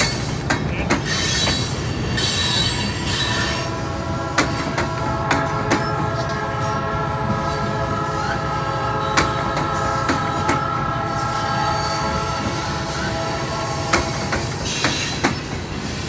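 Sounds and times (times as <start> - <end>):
low rumble of freight cars: 0.0 - 16.0.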